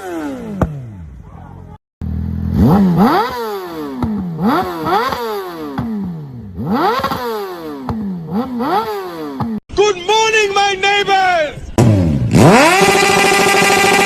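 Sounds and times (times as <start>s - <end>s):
motorcycle engine revving: 0.0s - 9.6s, 11.7s - 14.0s.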